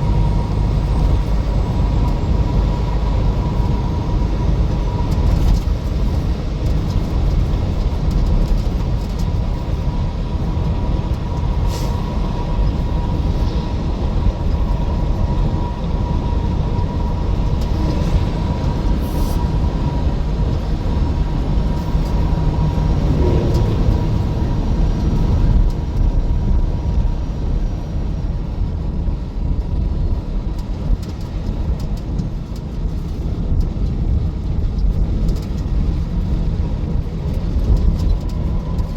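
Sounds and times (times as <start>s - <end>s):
vehicle road and engine noise: 0.0s - 38.9s.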